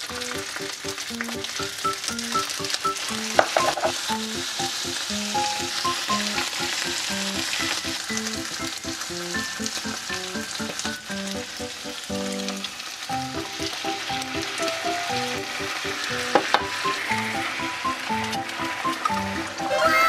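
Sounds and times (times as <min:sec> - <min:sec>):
light background music: 0:00.0 - 0:20.0
rice sizzling in a frying pan: 0:00.0 - 0:20.0.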